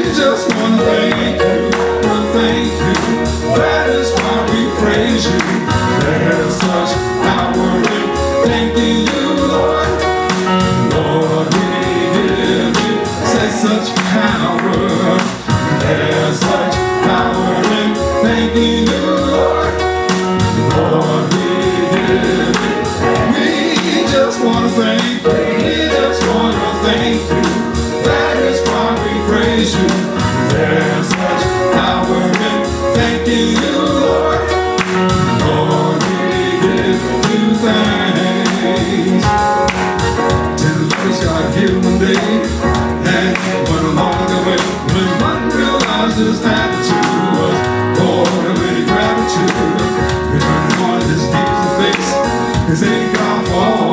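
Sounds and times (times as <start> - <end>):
gospel music with singing: 0.0 - 53.9.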